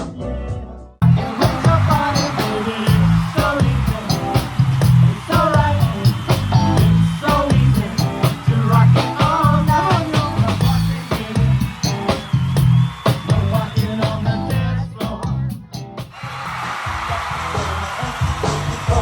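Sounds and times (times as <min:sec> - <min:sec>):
person singing: 0:00.0 - 0:12.2, 0:13.0 - 0:15.8, 0:17.3 - 0:19.0
band music with drums and bass: 0:00.0 - 0:19.0.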